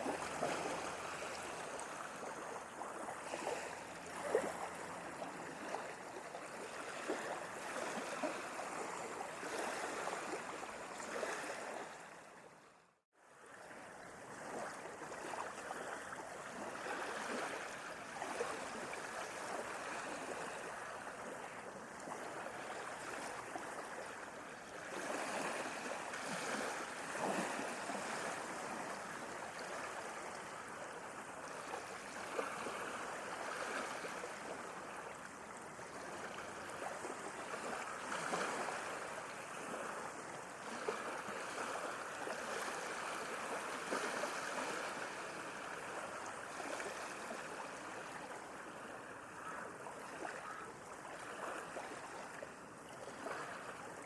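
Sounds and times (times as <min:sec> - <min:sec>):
small sea waves lapping: 0:00.0 - 0:54.0.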